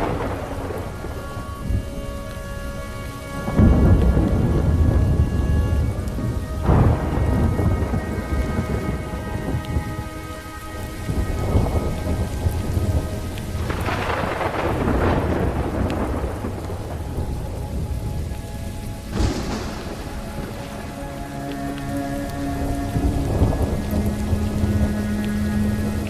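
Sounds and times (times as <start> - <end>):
rolling thunder: 0.0 - 26.0
slow reverb-heavy instrumental music: 0.0 - 26.0
steady rain: 0.0 - 26.0.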